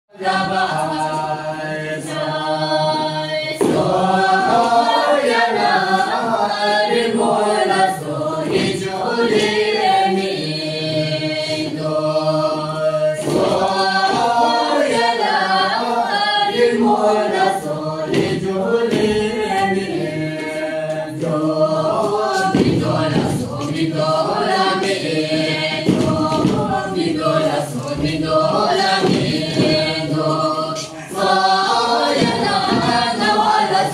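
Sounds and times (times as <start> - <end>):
group singing unaccompanied: 0.1 - 33.9.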